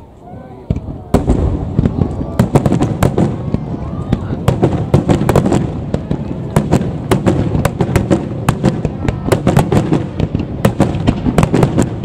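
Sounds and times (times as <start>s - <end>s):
fireworks bursting: 0.1s - 12.0s.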